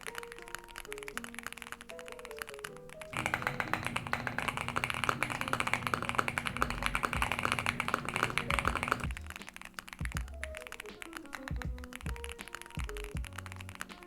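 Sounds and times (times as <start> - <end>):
fast mechanical keyboard typing: 0.0 - 11.1, 11.9 - 14.0.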